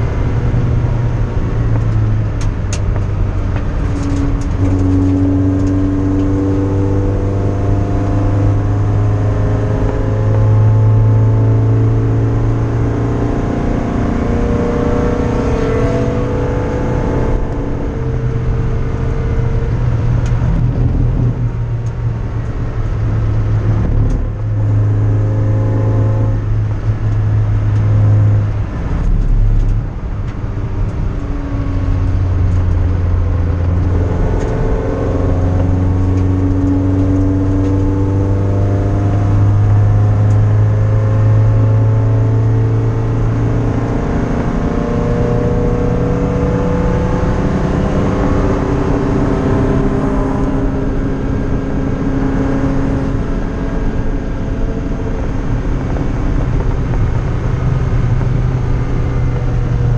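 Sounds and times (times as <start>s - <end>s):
race car engine revving: 0.0s - 59.9s
road and wind noise: 0.0s - 59.9s.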